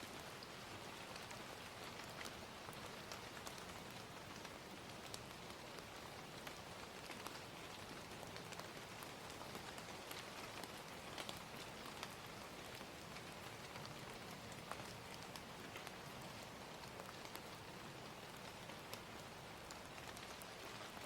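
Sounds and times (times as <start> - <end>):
gentle rain: 0.0 - 21.0
fire crackling and popping: 1.1 - 21.0.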